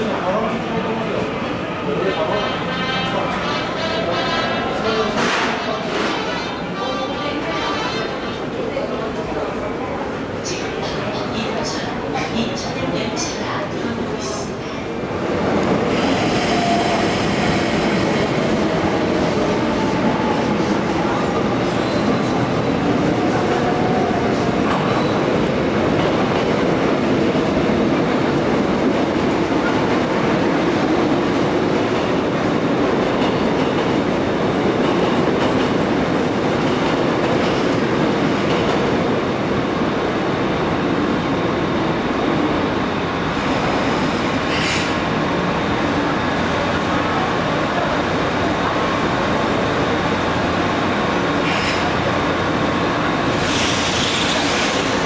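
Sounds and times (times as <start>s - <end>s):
train wheels rumbling on rails: 9.0s - 55.0s.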